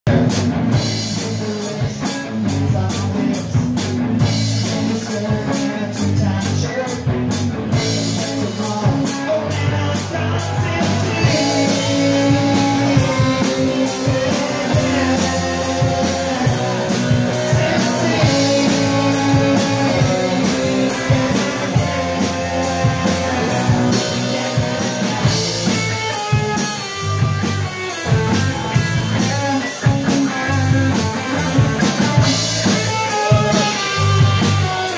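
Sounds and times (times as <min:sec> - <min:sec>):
drum kit: 0:00.1 - 0:34.9
electric guitars: 0:00.1 - 0:34.9.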